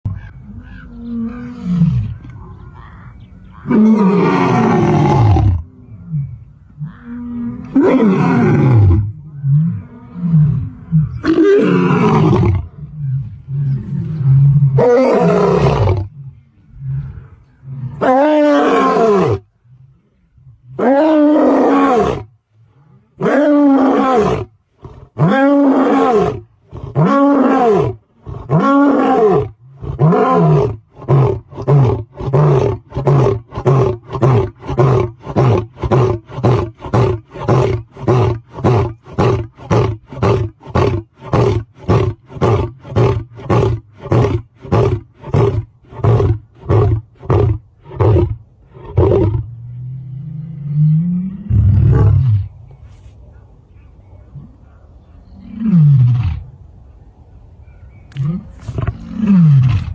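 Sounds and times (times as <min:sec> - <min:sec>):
lion roaring: 0:00.1 - 0:19.9, 0:20.6 - 0:52.5.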